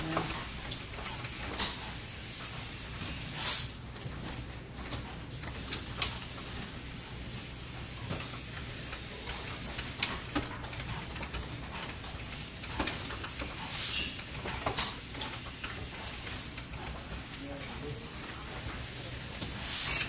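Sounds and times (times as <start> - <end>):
pneumatic actuators clicking and knocking: 0.0 - 20.0.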